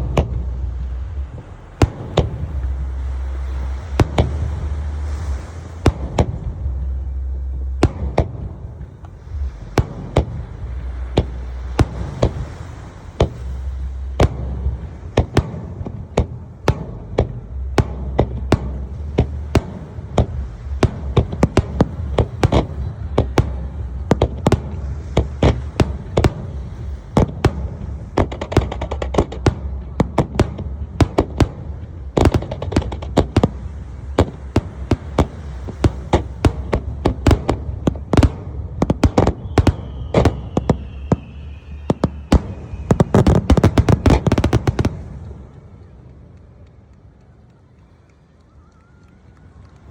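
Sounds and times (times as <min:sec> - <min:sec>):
fireworks bursting with sharp bangs: 0:00.0 - 0:49.9
steady low rumble: 0:00.0 - 0:49.9.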